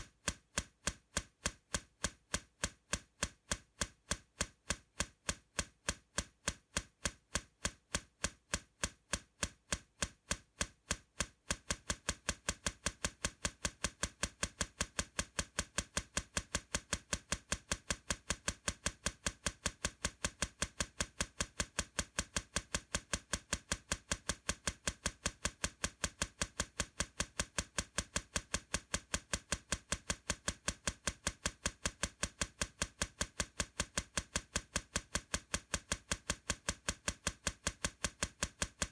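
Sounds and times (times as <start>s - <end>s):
steady ticking clicks: 0.0s - 38.9s.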